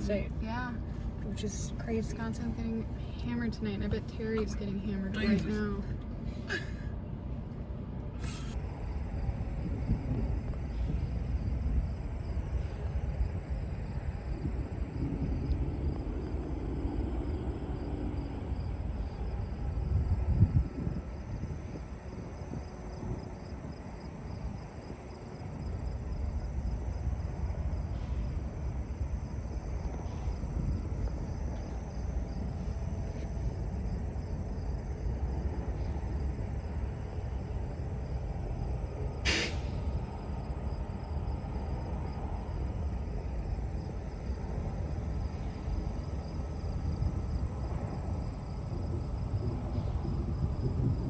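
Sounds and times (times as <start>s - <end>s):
crickets chirping: 0.0s - 51.0s
deep continuous rumble: 0.0s - 51.0s.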